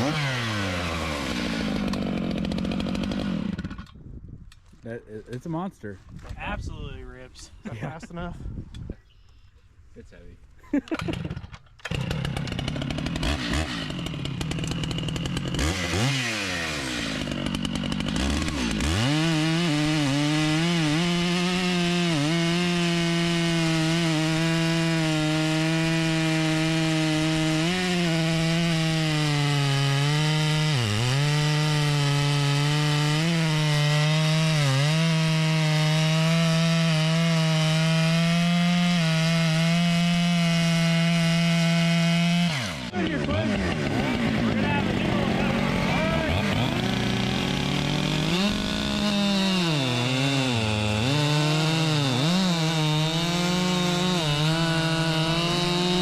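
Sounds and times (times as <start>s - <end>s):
chainsaw cutting a log: 0.0s - 4.0s, 10.8s - 56.0s.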